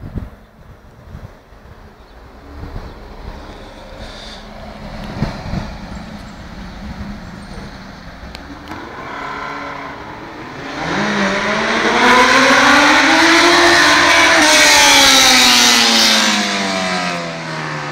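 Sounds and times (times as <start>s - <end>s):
motorcycle engine revving: 2.4s - 17.9s.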